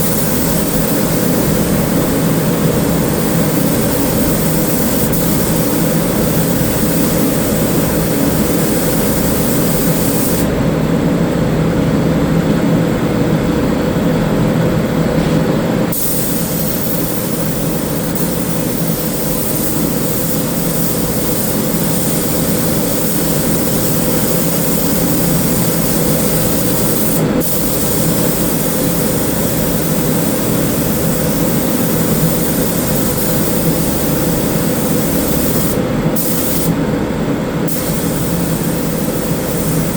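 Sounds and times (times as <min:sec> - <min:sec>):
spray gun hissing: 0:00.0 - 0:10.5, 0:15.9 - 0:36.8, 0:37.7 - 0:39.9
steady machine hum: 0:00.0 - 0:39.9.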